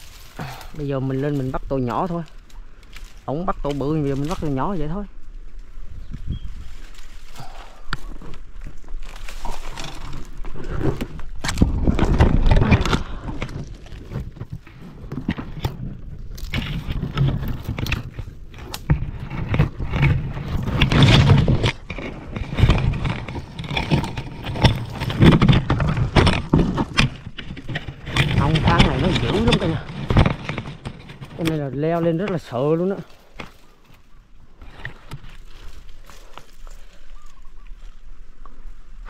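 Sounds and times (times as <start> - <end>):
scrapes and low bumps: 0.0 - 37.1
brush rustling and snapping: 0.0 - 39.0.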